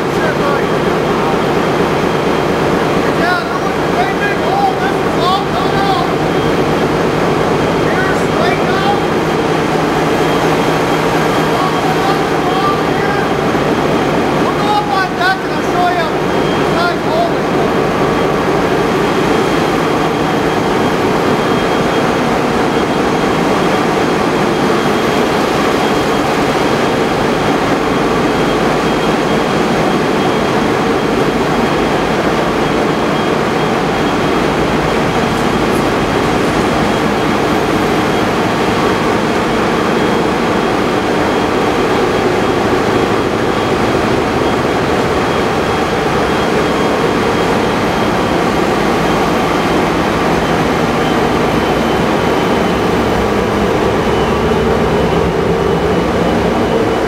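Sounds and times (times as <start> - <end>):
diesel machinery droning: 0.0 - 57.0
steady mechanical tones: 0.0 - 57.0.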